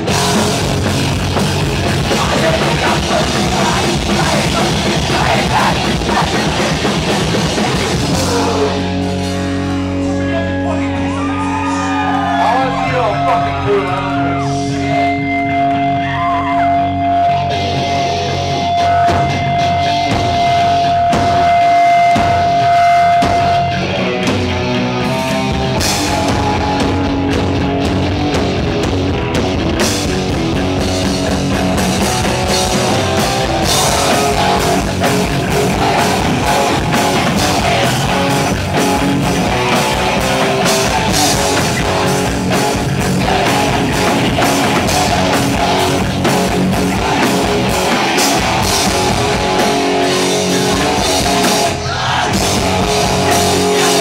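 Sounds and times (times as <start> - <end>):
bass guitar: 0.0 - 54.0
distorted electric guitar: 0.0 - 54.0
drum kit: 0.0 - 54.0
punk band playing live: 0.0 - 54.0.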